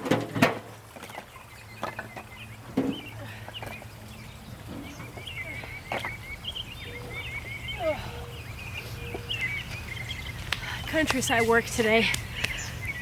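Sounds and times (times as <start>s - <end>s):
small birds chirping: 0.8s - 13.0s.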